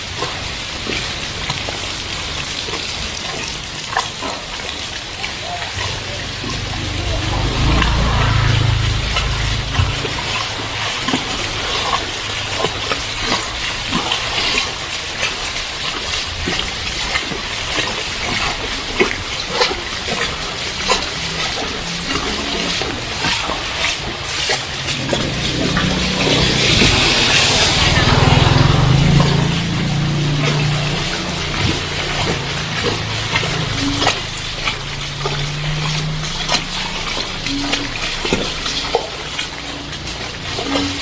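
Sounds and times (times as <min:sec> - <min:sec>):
heavy rain pouring: 0:00.0 - 0:41.0
passing vehicle rumble: 0:00.0 - 0:41.0
water drops splashing: 0:00.0 - 0:41.0.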